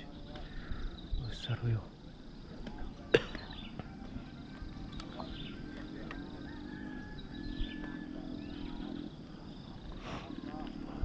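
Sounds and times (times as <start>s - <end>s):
birds chirping: 0.0s - 11.0s
low droning hum: 0.0s - 11.0s.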